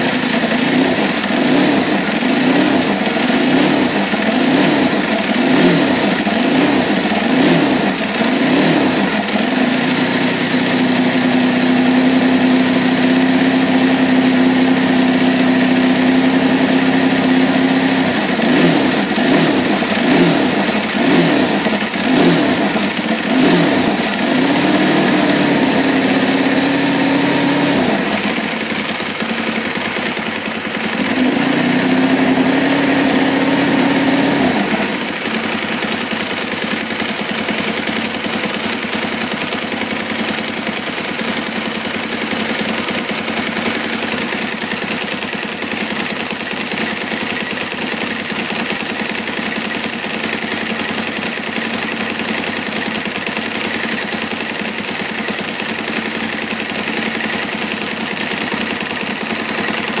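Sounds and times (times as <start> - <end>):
engine idling: 0.0 - 60.0.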